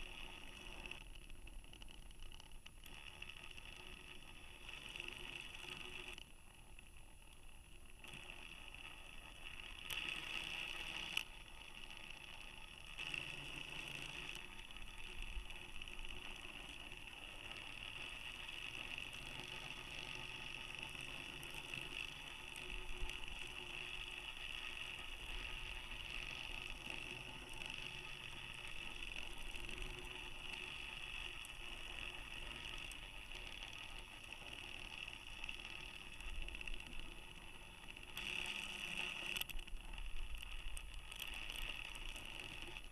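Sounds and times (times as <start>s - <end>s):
small motor whine: 0.0s - 42.9s.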